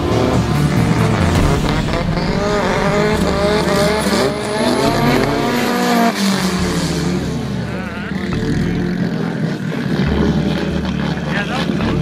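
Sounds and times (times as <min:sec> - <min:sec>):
race car engine revving: 0:00.0 - 0:12.0.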